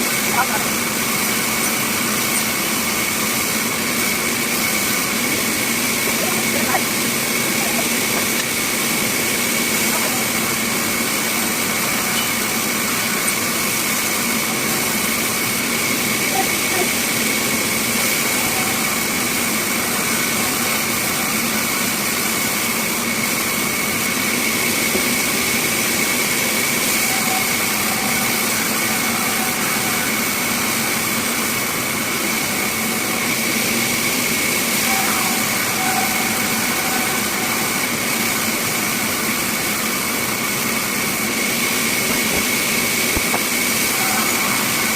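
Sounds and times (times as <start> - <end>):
bandsaw running: 0.0 - 44.9.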